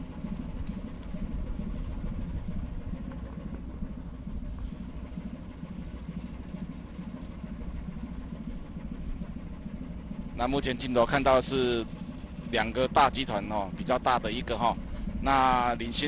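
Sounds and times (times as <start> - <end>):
ship engine rumbling: 0.0 - 16.0.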